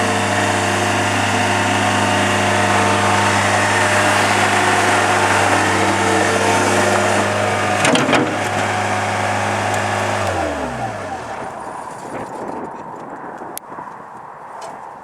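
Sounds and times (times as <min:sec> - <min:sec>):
skid steer loader engine running: 0:00.0 - 0:12.9.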